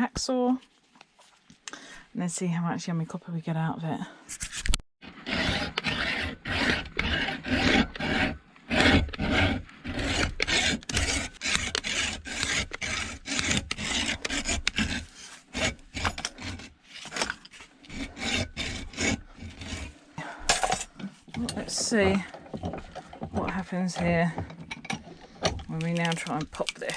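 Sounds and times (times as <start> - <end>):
hacksaw sawing: 5.0 - 26.9.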